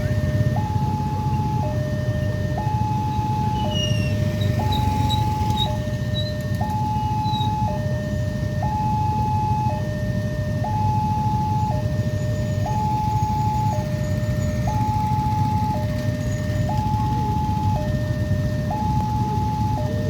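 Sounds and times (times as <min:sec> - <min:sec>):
two-tone electronic warning alarm: 0:00.0 - 0:20.0.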